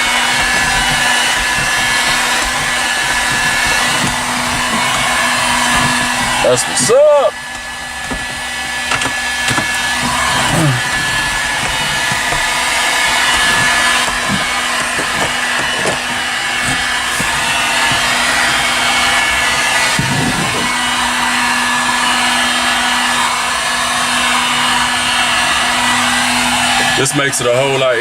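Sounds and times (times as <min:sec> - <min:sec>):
heat gun blowing: 0:00.0 - 0:28.0.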